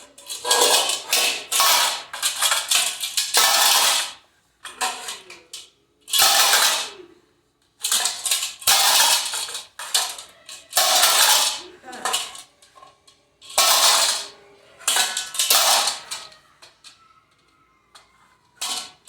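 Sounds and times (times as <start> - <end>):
metal pots and pans clattering: 0.0 - 7.0, 7.8 - 17.0, 18.0 - 19.0.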